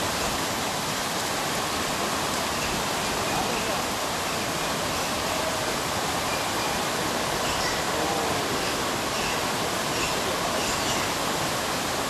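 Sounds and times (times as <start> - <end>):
rushing floodwater roar: 0.0 - 12.0.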